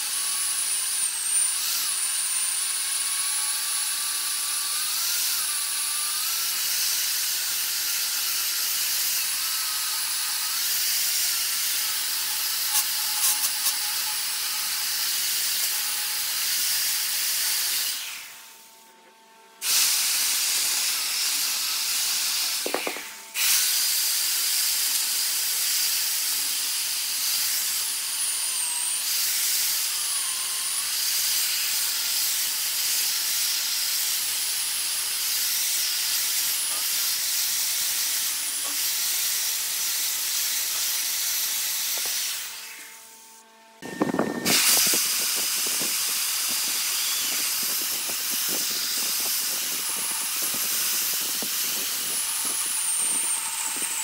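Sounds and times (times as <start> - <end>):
lathe tool shaving wood hiss: 0.0 - 18.7, 19.6 - 54.0.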